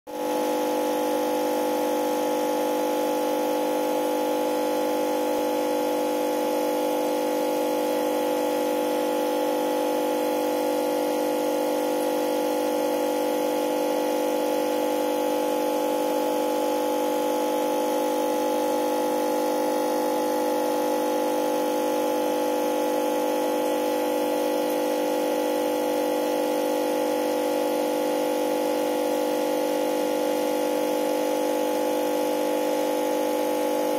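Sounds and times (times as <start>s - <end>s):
aquarium air pump humming: 0.1s - 33.9s.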